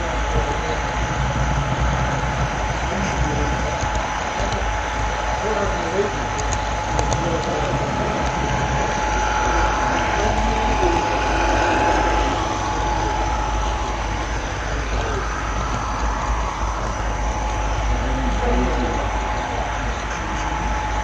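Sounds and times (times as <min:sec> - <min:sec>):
motor whine: 0:00.0 - 0:21.0.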